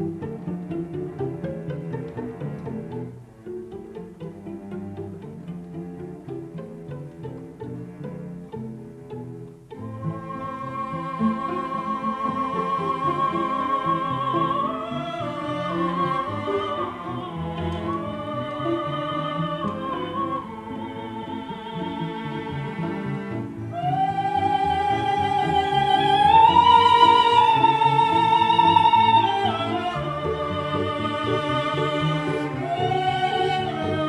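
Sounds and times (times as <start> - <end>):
slow classical music with strings: 0.0 - 34.0.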